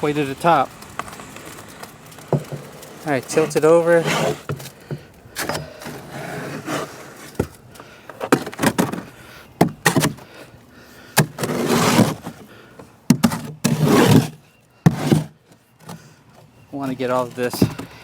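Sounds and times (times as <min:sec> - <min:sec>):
concrete scraping and sliding: 0:00.0 - 0:10.2, 0:11.2 - 0:12.5, 0:13.1 - 0:16.1.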